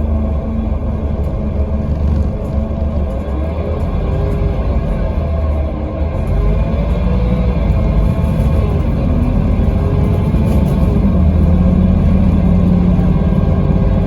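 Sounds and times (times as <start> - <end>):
diesel coach engine droning: 0.0 - 14.0.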